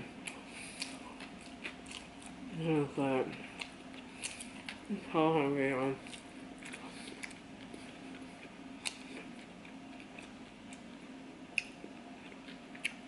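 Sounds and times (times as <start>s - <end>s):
faint low hum: 0.0s - 13.0s
chewing with wet mouth clicks: 0.2s - 2.4s, 3.3s - 4.9s, 6.0s - 13.0s.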